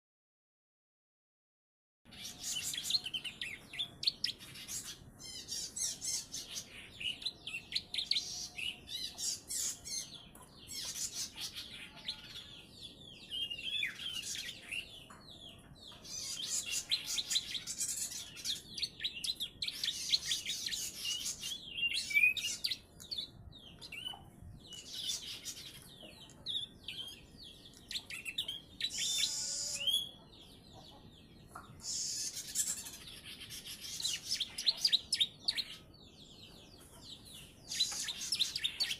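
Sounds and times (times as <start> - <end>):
bird singing chirps and trills: 2.1 - 38.9.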